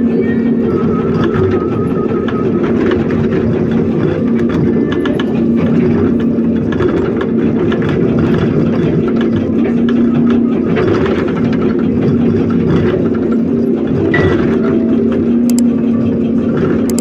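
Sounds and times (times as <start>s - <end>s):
heavy diesel engine running: 0.0s - 17.0s
faint rattling: 0.6s - 17.0s.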